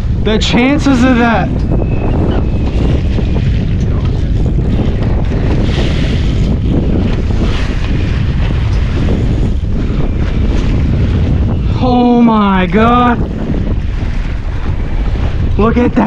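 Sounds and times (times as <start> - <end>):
water splashing along boat: 0.0 - 16.0
wind buffeting microphone: 0.0 - 16.0.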